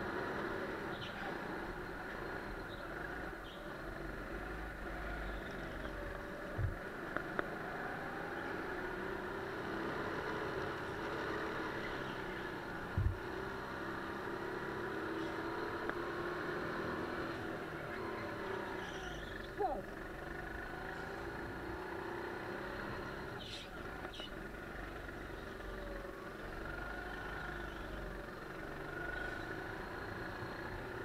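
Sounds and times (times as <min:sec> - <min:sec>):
kart engine running: 0:00.0 - 0:31.0.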